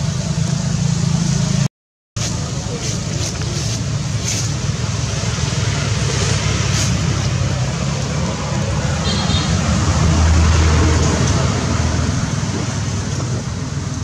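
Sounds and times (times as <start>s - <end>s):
traffic rumble and hiss: 0.0s - 14.0s.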